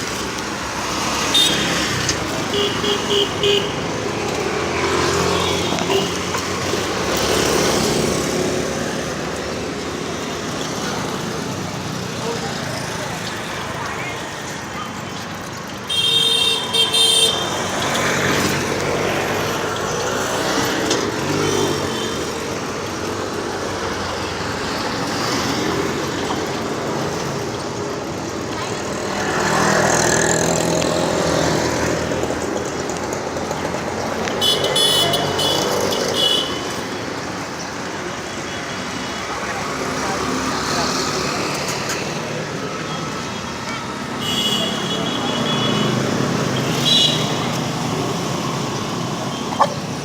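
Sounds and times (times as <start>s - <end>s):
passing vehicles rushing: 0.0s - 50.0s
road traffic rumble: 0.0s - 50.0s.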